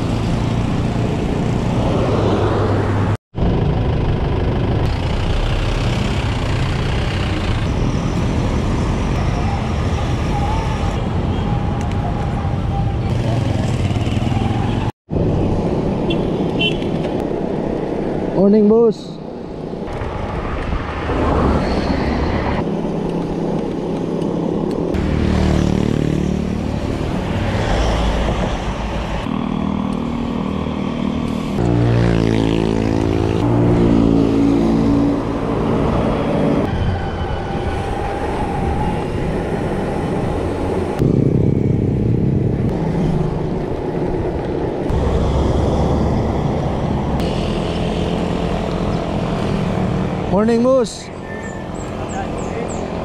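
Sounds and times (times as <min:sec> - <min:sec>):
motorcycles and cars passing: 0:00.0 - 0:37.1, 0:37.9 - 0:53.0.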